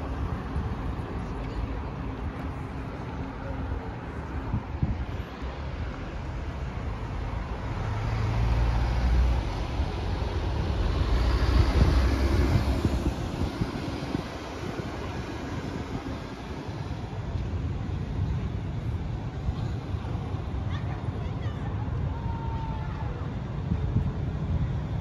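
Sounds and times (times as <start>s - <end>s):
bus driving past: 0.0s - 25.0s
road traffic: 0.0s - 25.0s.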